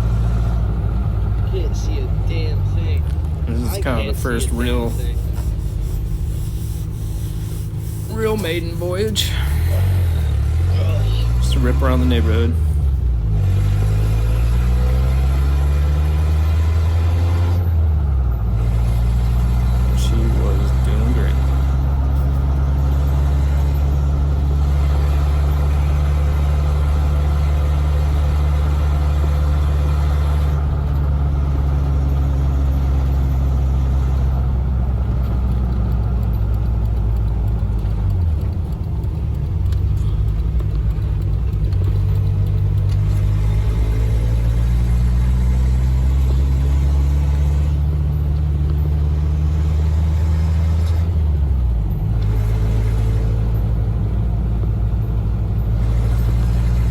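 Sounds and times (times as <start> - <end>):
car engine running on the road: 0.0 - 56.9.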